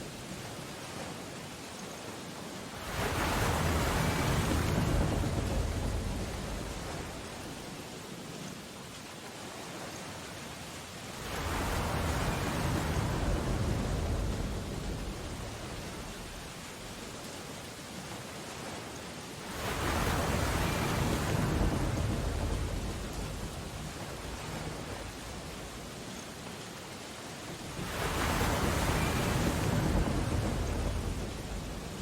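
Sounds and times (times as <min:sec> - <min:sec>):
ocean waves breaking: 0:00.0 - 0:32.0
rain hiss: 0:00.0 - 0:32.0.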